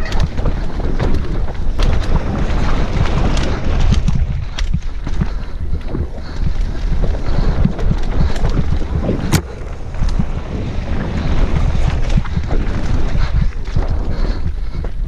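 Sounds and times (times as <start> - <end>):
bike rattling and knocking: 0.0 - 15.0
wind buffeting microphone: 0.0 - 15.0.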